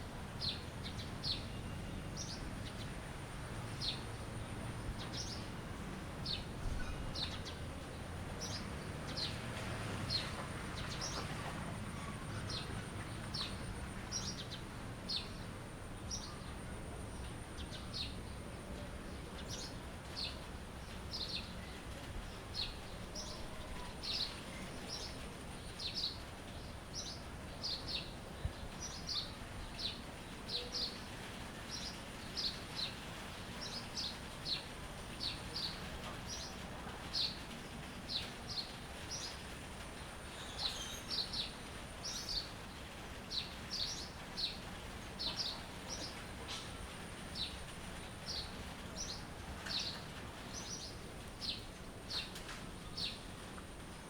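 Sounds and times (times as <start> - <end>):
background hiss: 0.0 - 54.0
songbirds chirping: 0.0 - 54.0.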